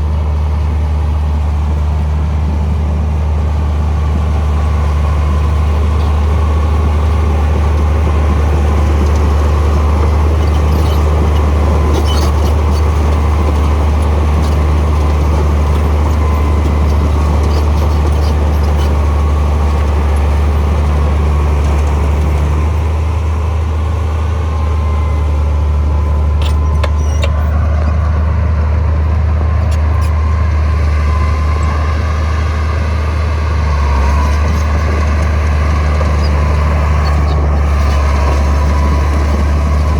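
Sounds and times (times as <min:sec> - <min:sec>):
heavy diesel engine drone: 0:00.0 - 0:39.9.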